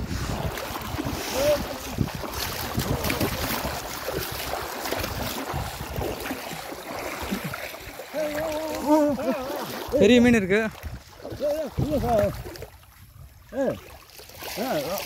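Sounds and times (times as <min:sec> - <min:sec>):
people wading and splashing water: 0:00.0 - 0:15.0
rushing river water: 0:00.0 - 0:15.0.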